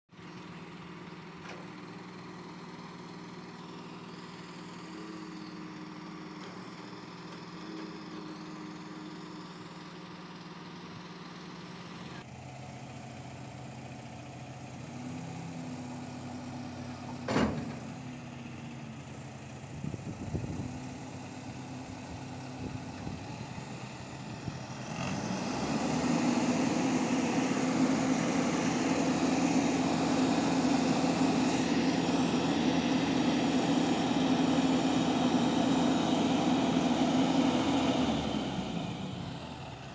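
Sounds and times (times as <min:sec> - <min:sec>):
crane diesel engine running: 0:00.1 - 0:39.9.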